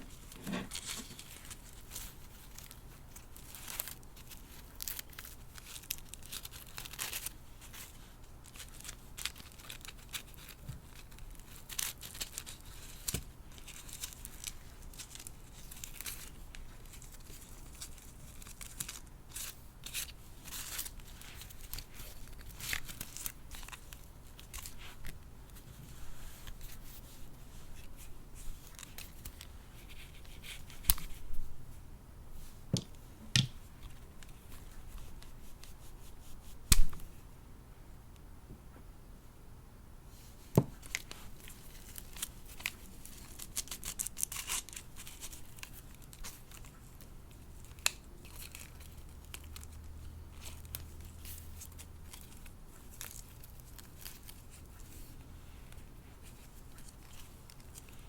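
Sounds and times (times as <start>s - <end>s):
plastic and paper packaging crinkling: 0.0s - 31.3s, 40.4s - 58.0s.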